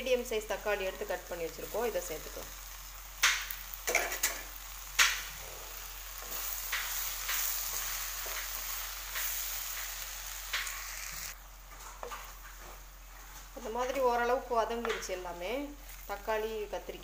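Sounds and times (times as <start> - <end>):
vegetables sizzling in hot oil: 0.0 - 11.4, 12.0 - 17.0.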